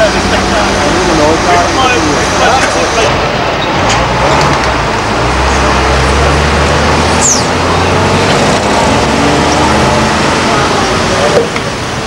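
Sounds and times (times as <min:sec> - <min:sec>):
heavy diesel engine droning: 0:00.0 - 0:12.0
road noise: 0:00.0 - 0:12.0.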